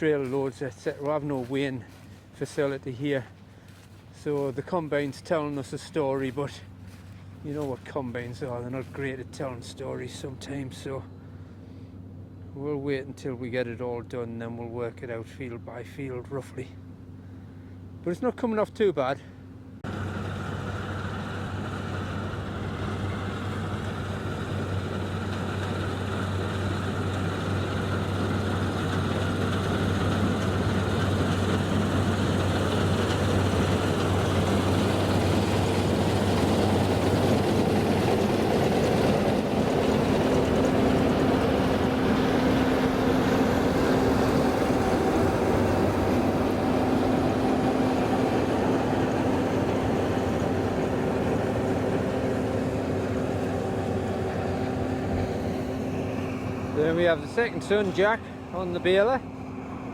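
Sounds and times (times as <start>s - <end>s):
farm machinery engine running: 0.0s - 12.0s, 19.8s - 59.9s.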